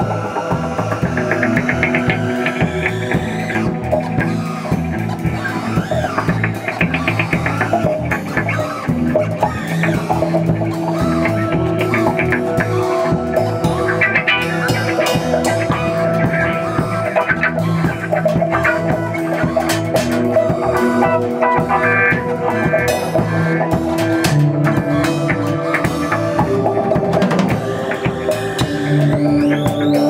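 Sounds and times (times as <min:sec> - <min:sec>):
bass guitar: 0:00.0 - 0:30.0
drum kit playing: 0:00.0 - 0:30.0
electric guitar: 0:00.0 - 0:30.0
held drone tones: 0:00.0 - 0:30.0.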